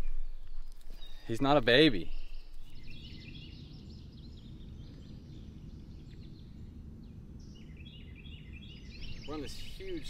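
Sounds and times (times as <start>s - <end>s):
low outdoor rumble: 0.0s - 10.0s
songbird singing high notes: 0.0s - 10.0s.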